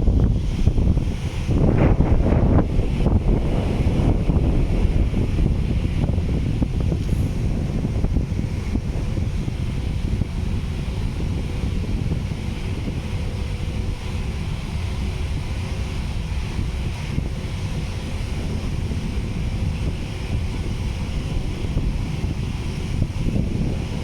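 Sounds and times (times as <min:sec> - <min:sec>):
faint steady hums: 0:00.0 - 0:24.0
wind buffeting microphone: 0:00.0 - 0:24.0.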